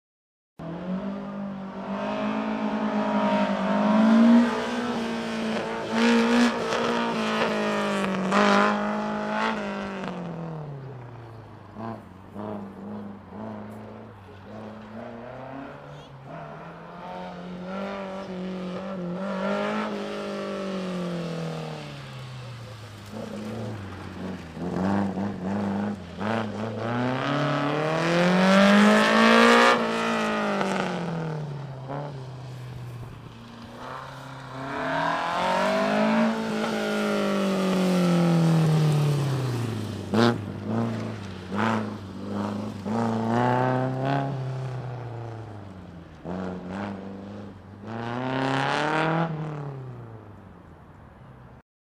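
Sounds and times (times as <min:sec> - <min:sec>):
car engine revving: 0:00.6 - 0:50.0.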